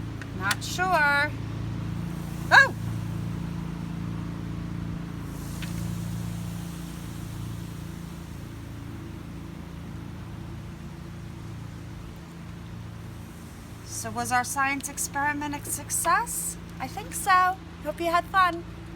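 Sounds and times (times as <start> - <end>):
soda fizzing and foaming: 0.0 - 17.4
steady low hum: 0.0 - 18.9.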